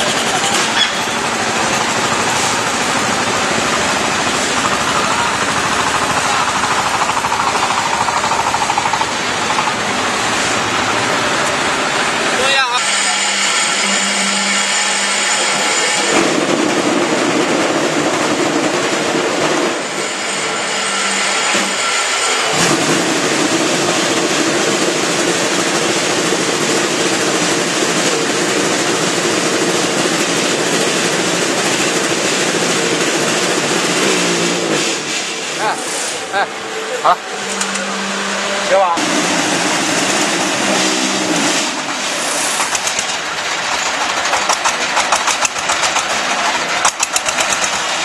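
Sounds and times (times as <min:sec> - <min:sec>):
block-making machine running: 0:00.0 - 0:48.0.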